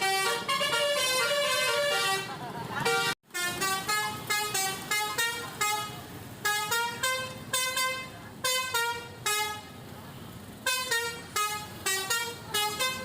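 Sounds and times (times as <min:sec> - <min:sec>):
musical bus horn: 0:00.0 - 0:09.9, 0:10.5 - 0:13.0.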